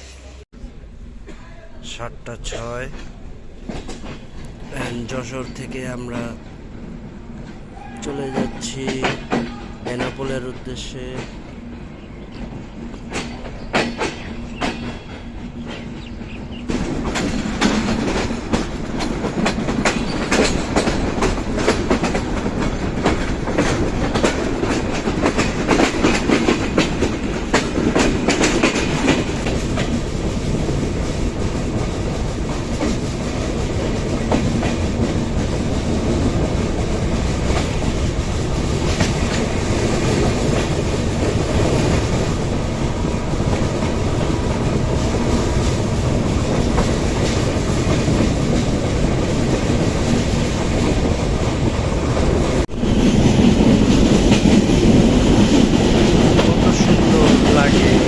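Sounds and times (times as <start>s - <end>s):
train wheels clattering over rails: 2.5s - 58.0s.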